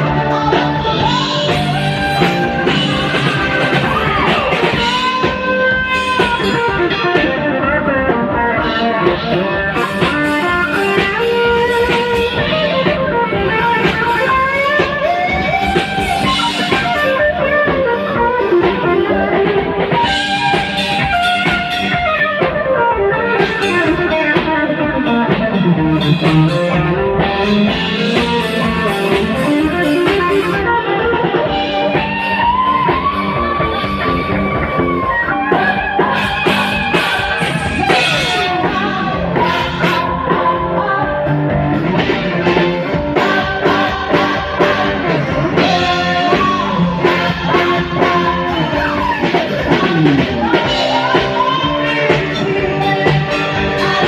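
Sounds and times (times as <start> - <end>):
electric guitar lead: 0.0 - 54.0.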